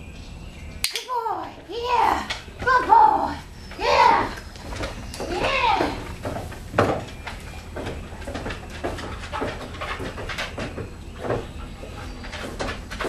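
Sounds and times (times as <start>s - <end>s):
footsteps on wooden deck: 1.6s - 13.0s.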